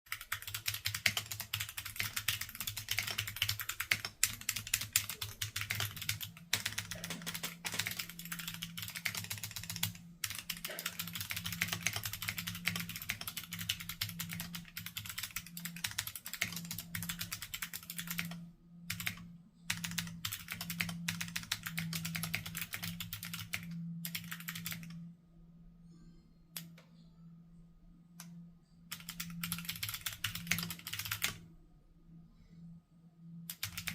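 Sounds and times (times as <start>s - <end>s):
typing on mechanical keyboard: 0.1s - 25.0s, 28.9s - 31.4s, 33.5s - 33.9s
faint low hum: 0.1s - 33.9s.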